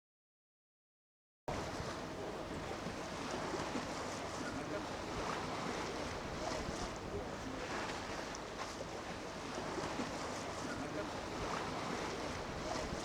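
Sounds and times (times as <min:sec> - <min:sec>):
sea noise: 0:01.5 - 0:13.0
wind: 0:01.5 - 0:13.0.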